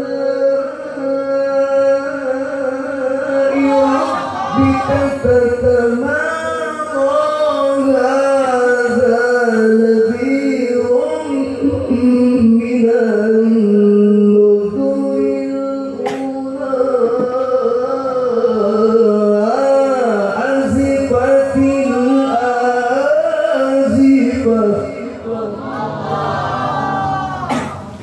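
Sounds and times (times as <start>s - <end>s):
man reciting melodically: 0.0s - 27.2s.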